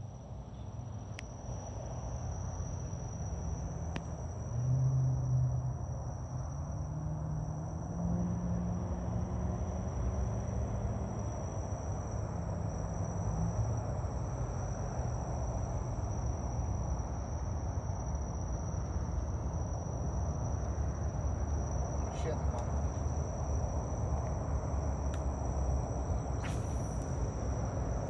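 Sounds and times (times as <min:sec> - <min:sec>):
insects droning: 0:00.0 - 0:28.0
low outdoor rumble: 0:00.0 - 0:28.0.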